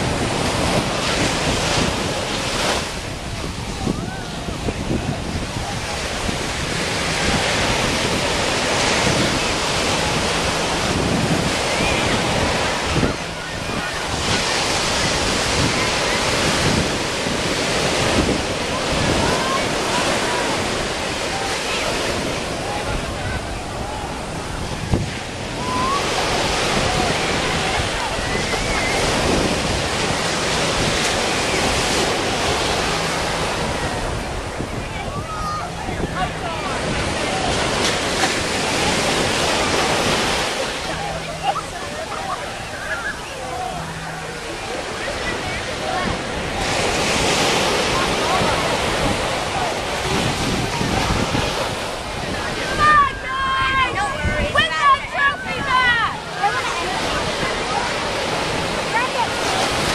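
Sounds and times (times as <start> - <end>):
surf breaking on beach: 0.0 - 59.9
wind buffeting microphone: 0.0 - 59.9.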